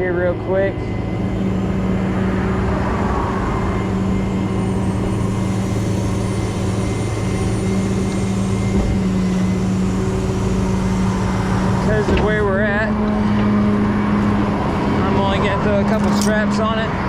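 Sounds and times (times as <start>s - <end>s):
truck engine and hydraulic pump hum: 0.0s - 17.0s.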